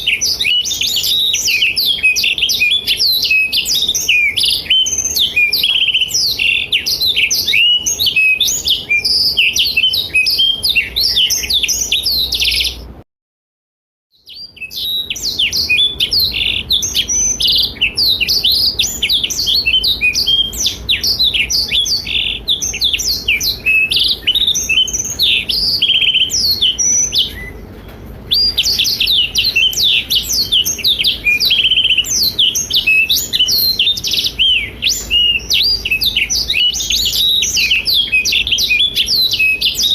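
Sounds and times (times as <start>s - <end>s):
bird singing twittering song: 0.0s - 13.0s, 14.1s - 39.9s.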